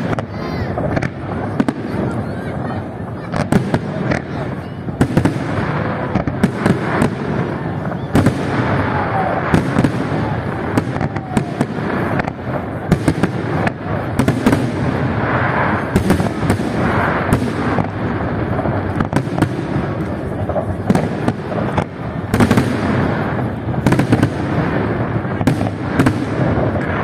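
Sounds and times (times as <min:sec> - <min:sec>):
fireworks crackling and rumble: 0:00.0 - 0:27.0.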